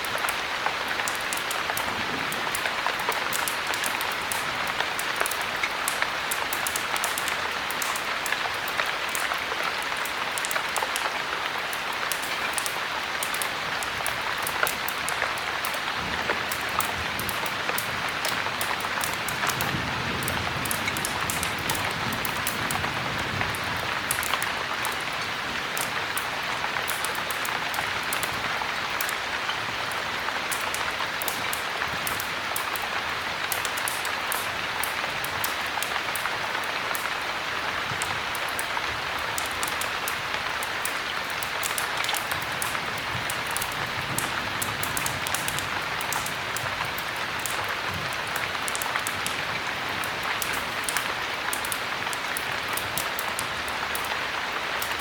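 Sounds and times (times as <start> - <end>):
heavy rain: 0.0 - 55.0
wood fire crackling: 0.0 - 55.0.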